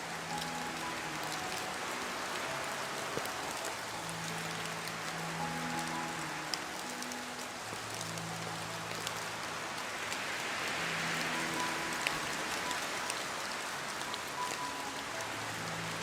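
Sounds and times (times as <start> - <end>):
raindrops ticking on a surface: 0.0 - 16.0
rainfall hiss: 0.0 - 16.0.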